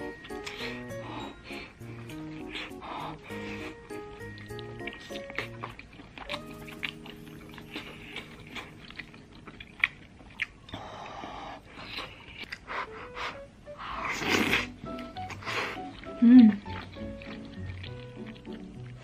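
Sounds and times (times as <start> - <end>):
person chewing food: 0.0 - 19.0
breathy noise: 0.1 - 17.1.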